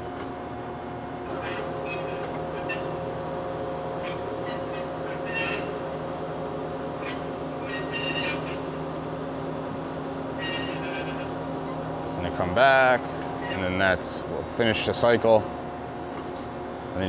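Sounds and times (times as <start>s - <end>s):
band saw humming: 0.0s - 17.0s.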